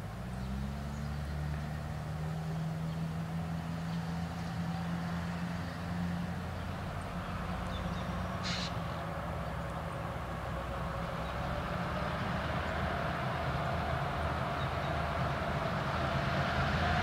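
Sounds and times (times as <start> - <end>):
distant locomotive engine drone: 0.0 - 17.0.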